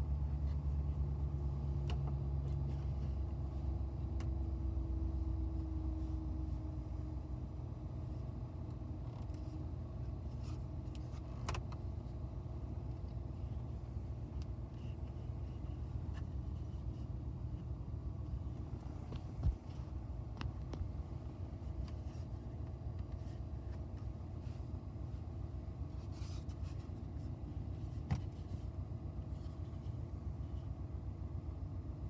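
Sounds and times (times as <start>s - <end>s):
truck cab rumble: 0.0s - 32.0s.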